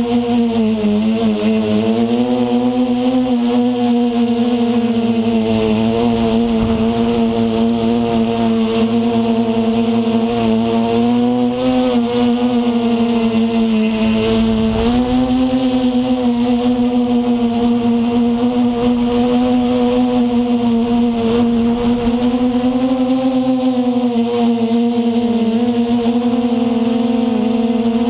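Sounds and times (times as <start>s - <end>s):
quadcopter motors buzzing: 0.0s - 28.0s
drone propellers humming: 0.1s - 28.0s.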